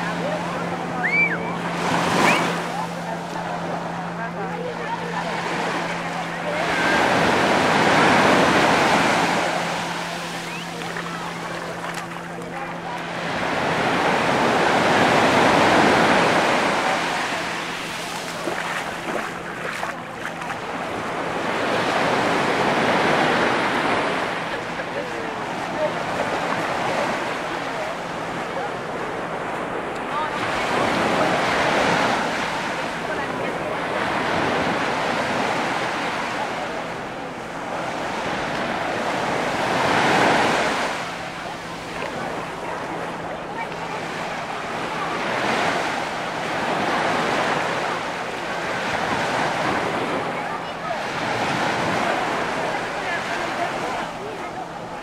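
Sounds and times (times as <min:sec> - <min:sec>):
surf breaking on sand: 0:00.0 - 0:55.0.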